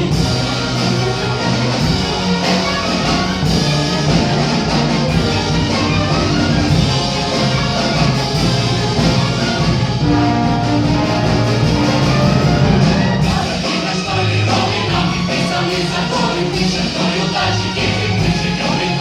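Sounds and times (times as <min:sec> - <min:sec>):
live orchestral music: 0:00.0 - 0:19.0.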